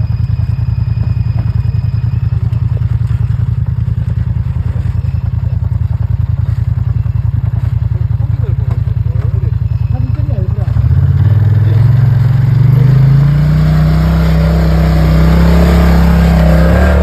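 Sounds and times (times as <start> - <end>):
atv engine idling: 0.0 - 15.4.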